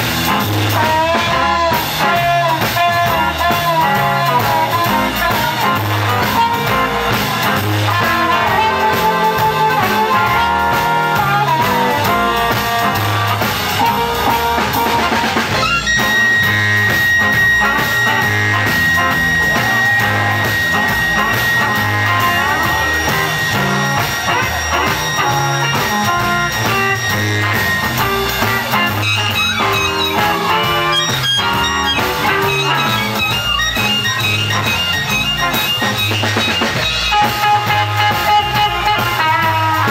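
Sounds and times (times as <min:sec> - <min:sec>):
blues band playing: 0:00.0 - 0:39.9
harmonica: 0:00.1 - 0:39.9.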